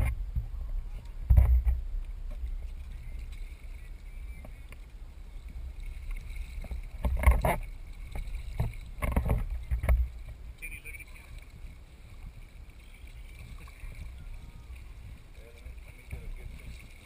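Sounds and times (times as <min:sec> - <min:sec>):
water splashing beside boat hull: 0:00.0 - 0:17.0.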